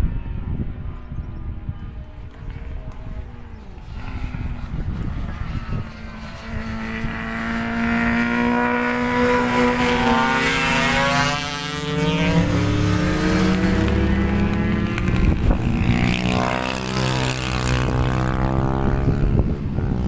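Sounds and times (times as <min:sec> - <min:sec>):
wind on microphone: 0:00.0 - 0:20.0
racing motorcycle passing at high revs: 0:01.9 - 0:20.0.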